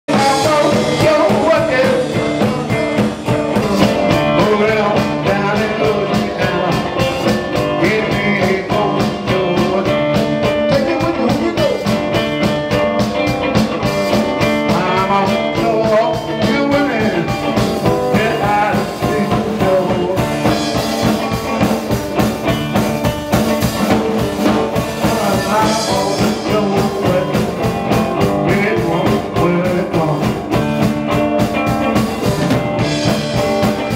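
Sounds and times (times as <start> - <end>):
drum kit beat: 0.1 - 33.9
electric guitar: 0.1 - 33.9.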